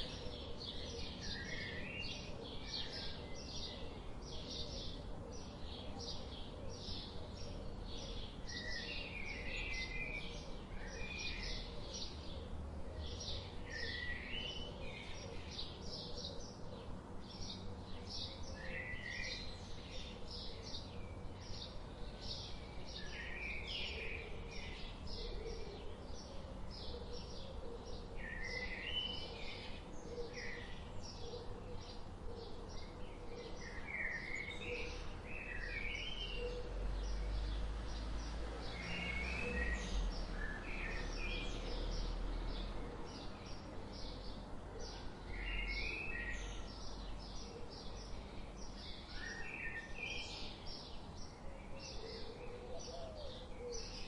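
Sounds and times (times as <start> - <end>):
birds chirping: 0.0 - 54.0
warbled bird song: 0.0 - 54.0.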